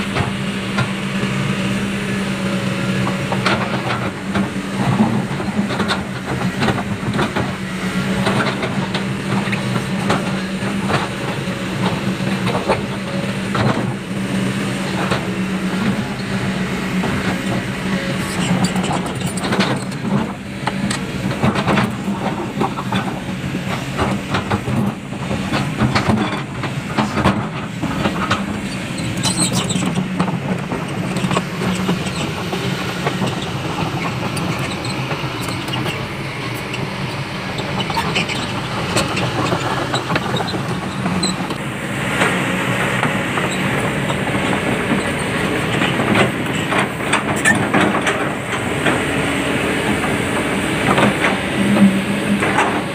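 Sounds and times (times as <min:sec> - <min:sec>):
excavator engine drone: 0:00.0 - 0:52.9.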